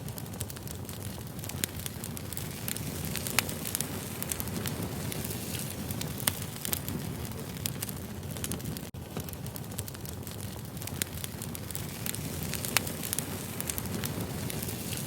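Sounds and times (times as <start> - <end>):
crackles and pops of fire: 0.0 - 15.0
firewood burning: 0.0 - 15.0.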